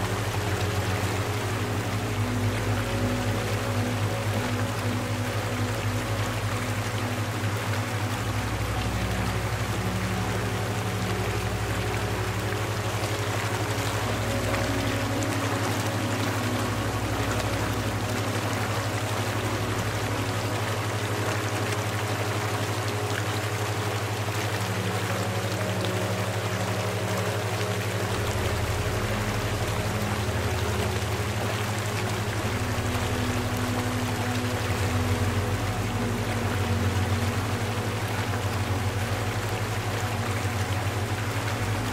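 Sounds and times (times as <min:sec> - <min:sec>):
low hum: 0:00.0 - 0:41.9
running water: 0:00.0 - 0:41.9.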